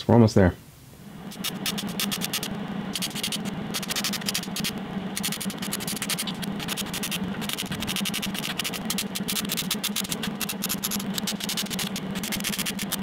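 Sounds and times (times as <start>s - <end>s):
steady low hum: 0.0s - 13.0s
welder arc crackling: 1.0s - 13.0s.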